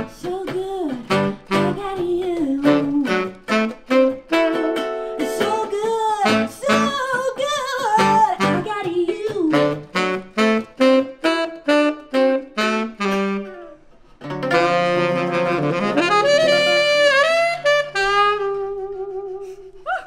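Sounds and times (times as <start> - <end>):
saxophone and acoustic guitar funk: 0.0 - 20.0.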